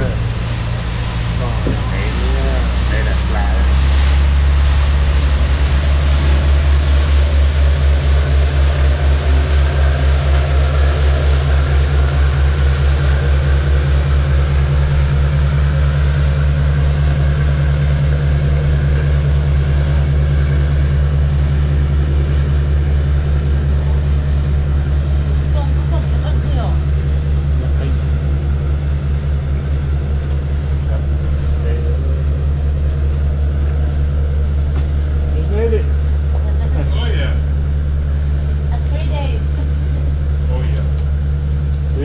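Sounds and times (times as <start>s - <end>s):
low throbbing engine drone: 0.0s - 42.0s.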